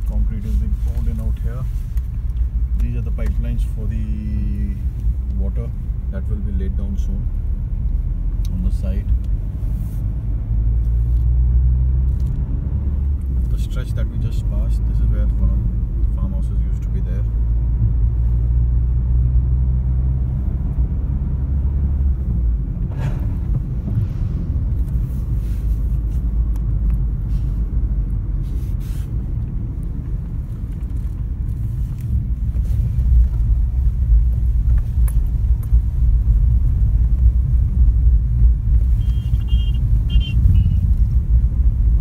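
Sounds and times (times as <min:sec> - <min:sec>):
car driving rumble: 0:00.0 - 0:42.0.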